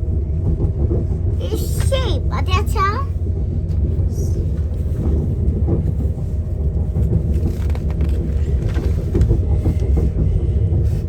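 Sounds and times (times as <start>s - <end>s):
train running low rumble: 0.0s - 11.0s
faint knocks and rattles: 0.2s - 11.0s.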